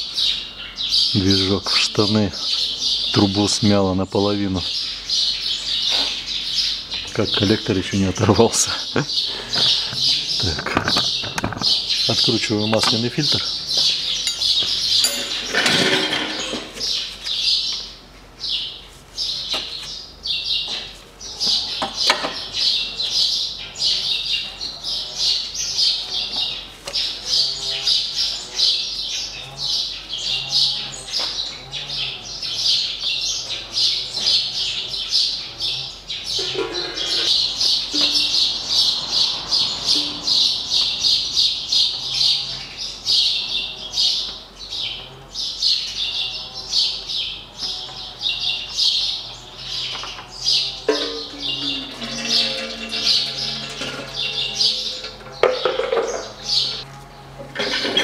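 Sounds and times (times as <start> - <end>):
small birds chirping rapidly: 0.0 - 56.9.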